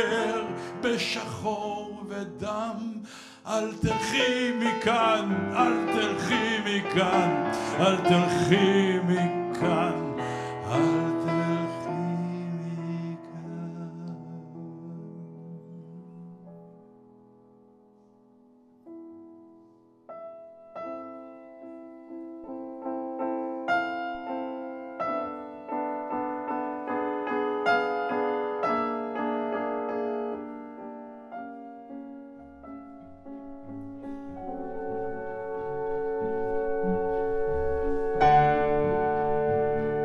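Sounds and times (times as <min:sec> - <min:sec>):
grand piano playing: 0:00.0 - 0:40.0.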